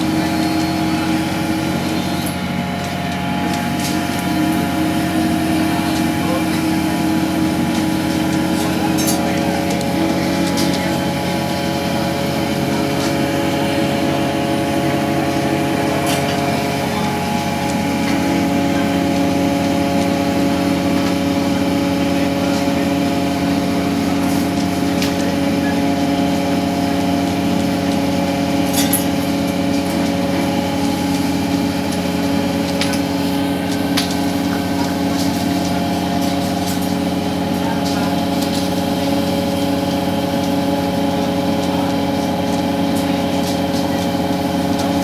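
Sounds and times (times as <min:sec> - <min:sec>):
machinery drone: 0:00.0 - 0:45.0.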